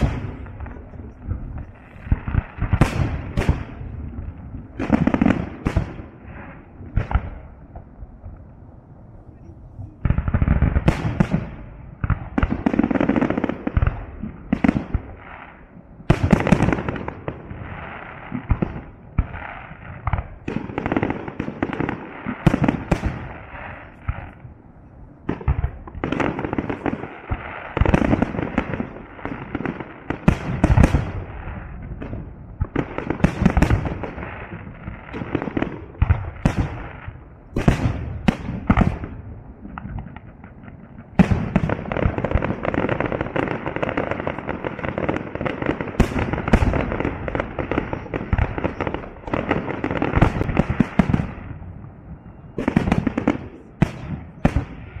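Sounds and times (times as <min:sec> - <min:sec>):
fireworks bangs and booms: 0:00.0 - 0:55.0.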